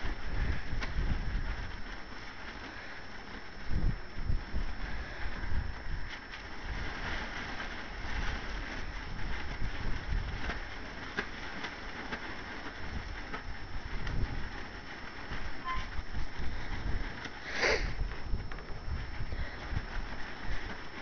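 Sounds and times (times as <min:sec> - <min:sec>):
tarp rustling and flapping: 0:00.0 - 0:21.0
wind rumbling on microphone: 0:00.0 - 0:21.0.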